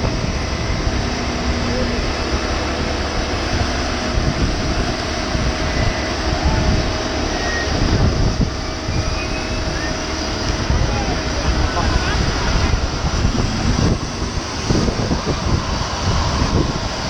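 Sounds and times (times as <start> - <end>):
jet aircraft noise: 0.0 - 17.0
wind buffeting microphone: 0.0 - 17.0.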